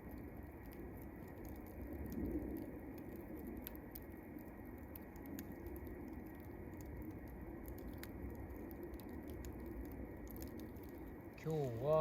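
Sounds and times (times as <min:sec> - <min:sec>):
campfire crackling and popping: 0:00.0 - 0:12.0
low rush of flame: 0:00.0 - 0:12.0.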